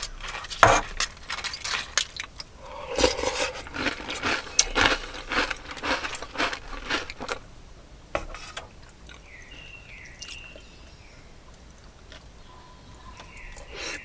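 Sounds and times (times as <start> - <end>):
crunchy chewing: 0.0 - 7.5, 8.8 - 14.0.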